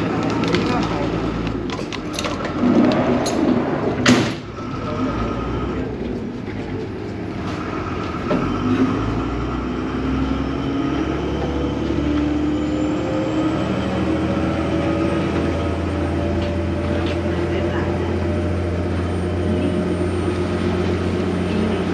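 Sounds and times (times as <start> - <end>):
boat engine humming: 0.0 - 21.9.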